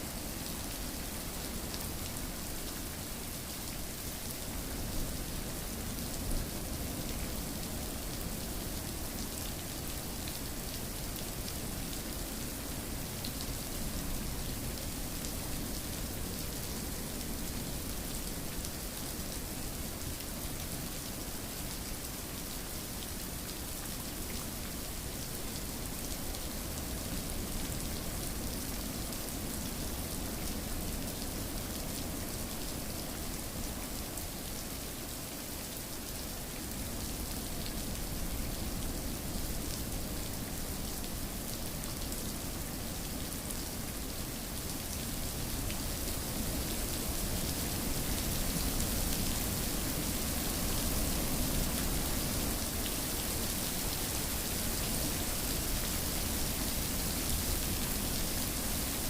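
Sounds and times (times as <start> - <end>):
rain pattering on surface: 0.1 - 59.0.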